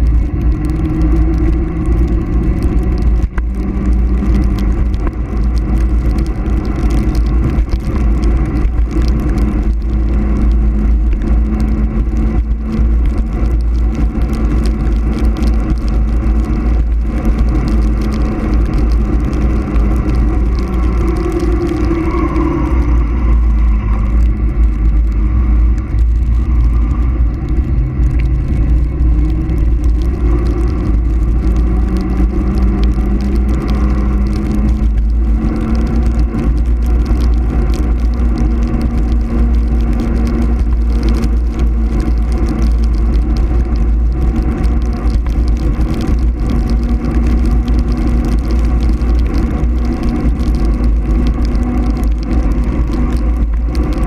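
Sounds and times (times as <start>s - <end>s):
tyre hum on road: 0.0s - 54.0s
wind buffeting microphone: 0.0s - 54.0s.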